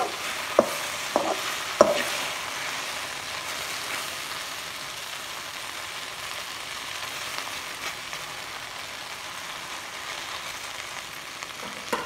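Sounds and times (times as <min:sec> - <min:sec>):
okra sizzling in a pan: 0:00.0 - 0:12.0.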